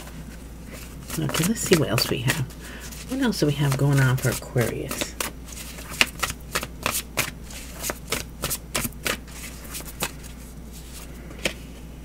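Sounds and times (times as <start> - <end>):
cards being shuffled: 0.0 - 11.7.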